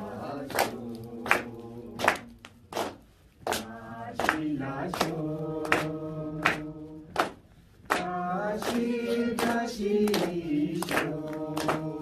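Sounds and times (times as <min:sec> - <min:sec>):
men singing together: 0:00.0 - 0:02.3, 0:03.6 - 0:07.2, 0:08.0 - 0:12.0
hands clapping in time: 0:00.4 - 0:12.0.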